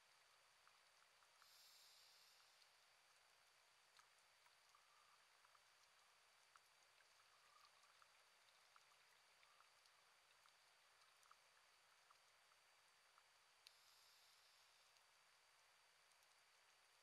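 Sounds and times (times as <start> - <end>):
coral reef crackle: 0.0 - 17.0
faint underwater hiss: 0.0 - 17.0.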